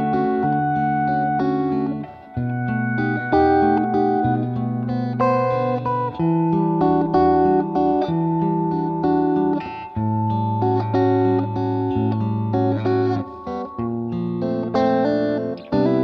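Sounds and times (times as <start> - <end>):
plucked guitar music with bass: 0.0 - 16.0.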